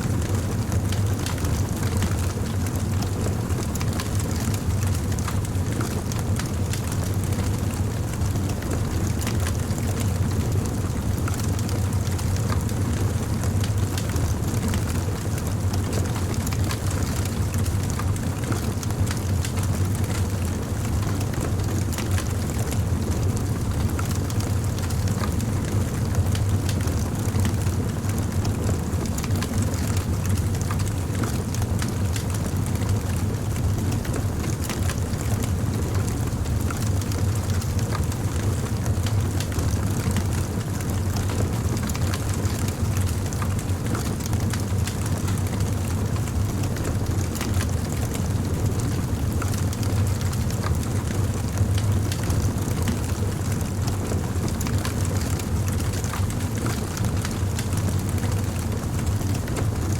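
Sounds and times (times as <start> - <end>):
campfire flames rumbling: 0.1 - 59.9
wood crackling and popping: 0.2 - 59.7.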